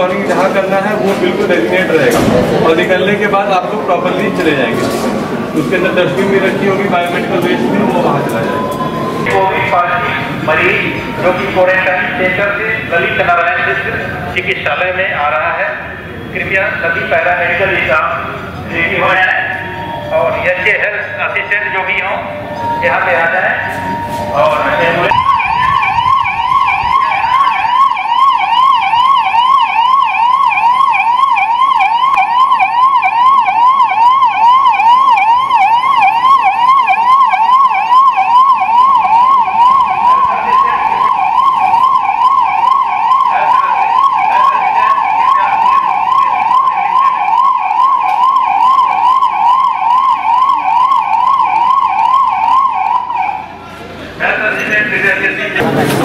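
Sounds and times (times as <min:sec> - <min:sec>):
ambulance siren yelping: 0:03.1 - 0:55.6.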